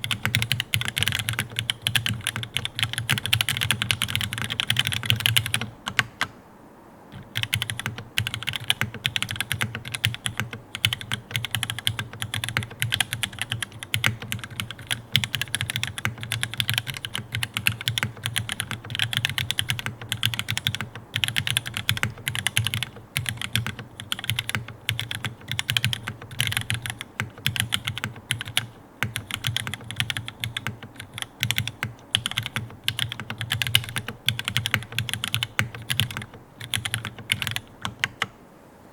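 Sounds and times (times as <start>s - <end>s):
mechanical keyboard typing: 0.0s - 6.3s, 7.1s - 38.3s.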